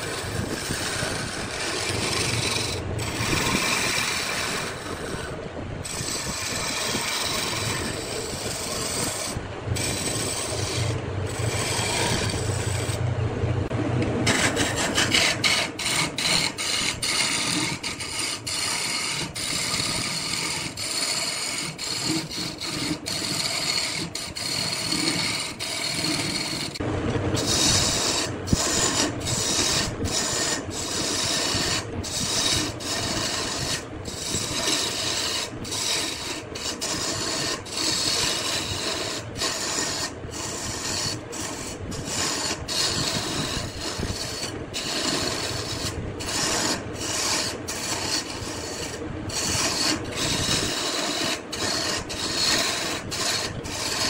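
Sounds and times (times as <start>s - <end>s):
wood lathe rasping hiss: 0.0s - 13.0s, 14.2s - 26.8s, 27.4s - 54.0s.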